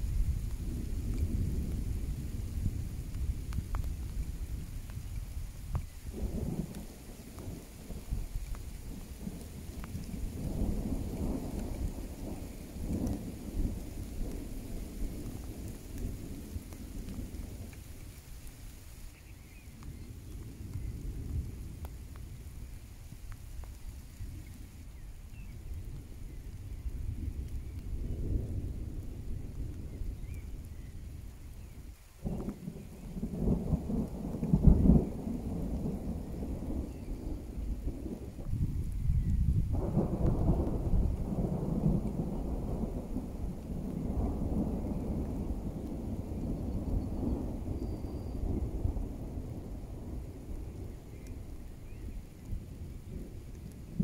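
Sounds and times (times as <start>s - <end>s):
light rain: 0.0s - 54.0s
thunder rumbling: 0.0s - 54.0s
raindrop ticks: 0.4s - 54.0s.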